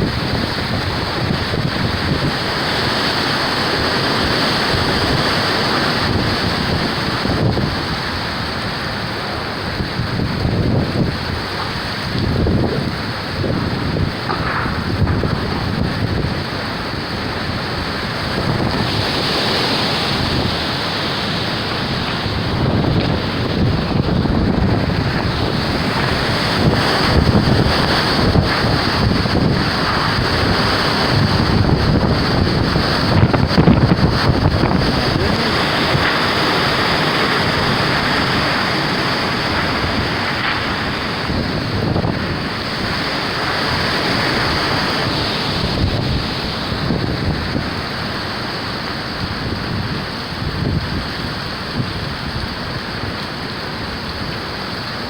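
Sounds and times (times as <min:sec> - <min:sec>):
storm wind rushing and gusting: 0:00.0 - 0:55.0
wind buffeting microphone: 0:00.0 - 0:55.0.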